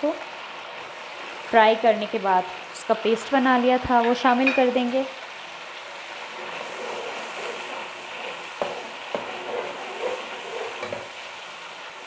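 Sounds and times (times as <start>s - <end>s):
paste sizzling in hot oil: 0.2s - 12.0s.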